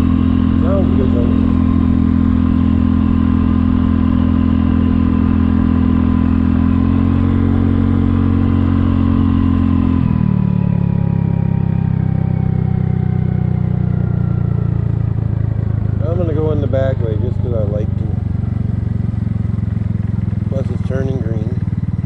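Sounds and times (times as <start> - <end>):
scooter engine running: 0.0 - 22.0.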